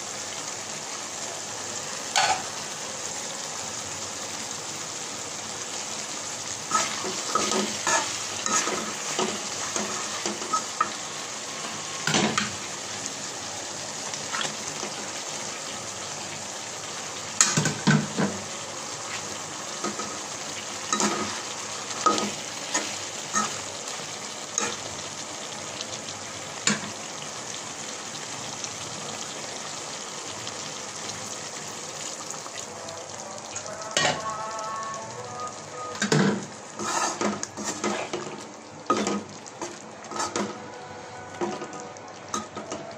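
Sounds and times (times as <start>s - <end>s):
curry sizzling in a pan: 0.0s - 42.9s.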